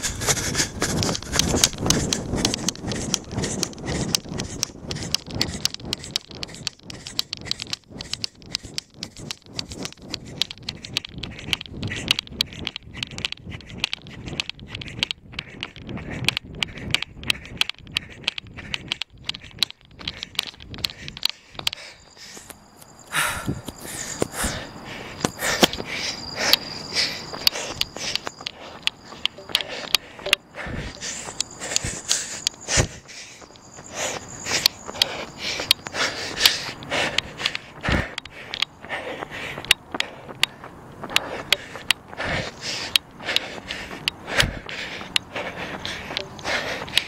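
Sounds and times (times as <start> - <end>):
wind rumble on microphone: 0.0 - 22.1, 23.2 - 47.0
handheld camera knocking and rustling: 0.0 - 22.5, 26.5 - 47.0
crickets chirring: 0.0 - 47.0
person breathing hard: 0.0 - 47.0
running footsteps: 0.0 - 47.0
scattered clicks: 0.0 - 47.0.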